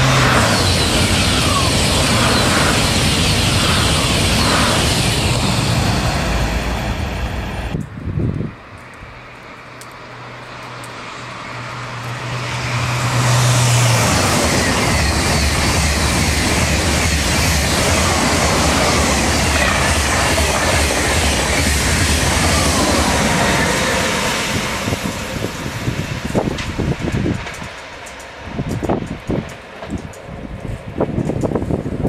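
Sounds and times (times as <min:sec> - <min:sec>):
high-speed train rushing past: 0:00.0 - 0:32.0.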